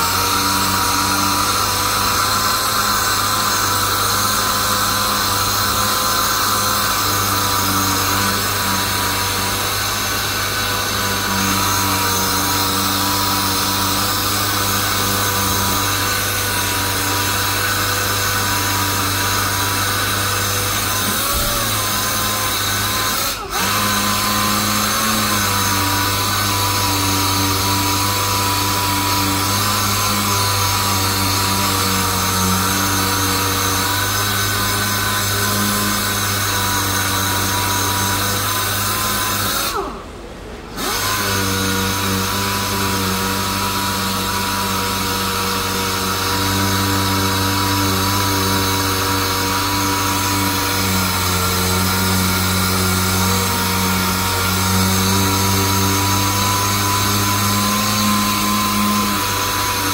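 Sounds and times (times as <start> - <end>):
orbital sander whining: 0.0 - 59.9.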